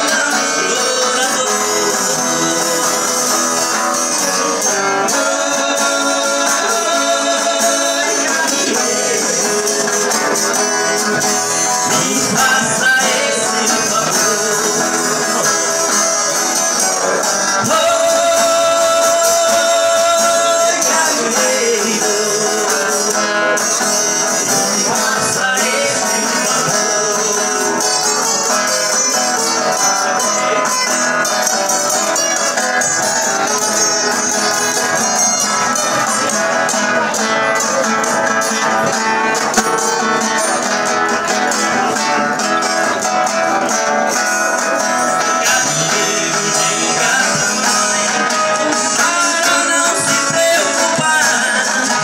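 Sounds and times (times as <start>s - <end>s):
strummed guitars and viola: 0.0s - 52.0s.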